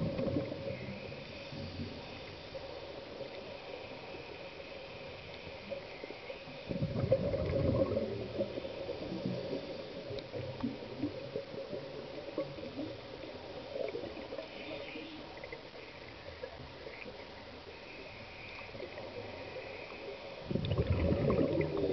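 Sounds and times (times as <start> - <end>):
underwater bubbles gurgling: 0.0 - 21.9.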